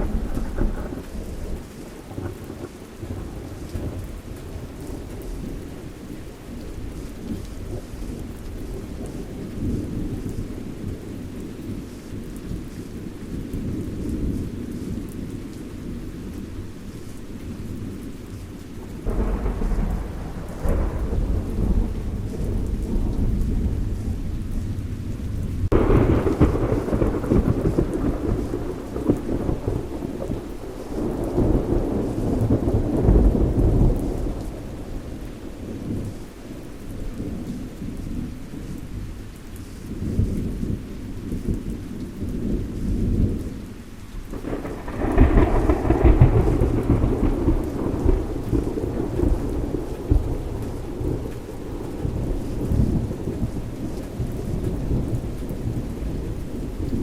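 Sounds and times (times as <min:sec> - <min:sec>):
deep rolling thunder: 0:00.0 - 0:16.6, 0:17.4 - 0:39.1, 0:40.0 - 0:57.0
steady rain: 0:00.0 - 0:57.0.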